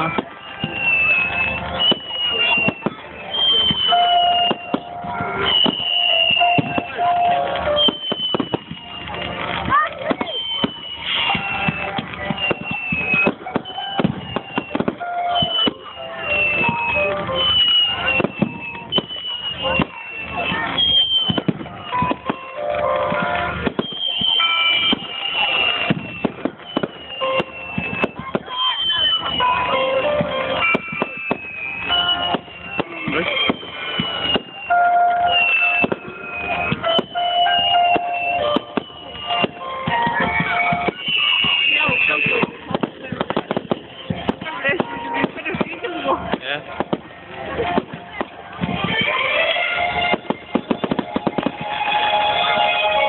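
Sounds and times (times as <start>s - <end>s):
fireworks cracks and bangs: 0.0s - 53.0s
fireworks whistling: 0.0s - 53.0s
music playing: 0.0s - 53.0s.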